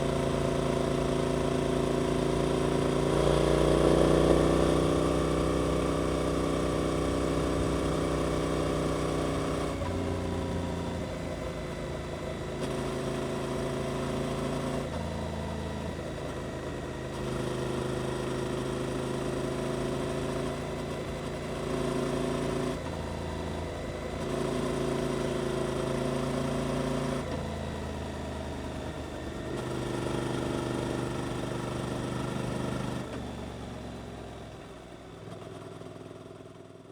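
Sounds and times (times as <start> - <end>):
motorcycle engine at low revs: 0.0 - 36.9.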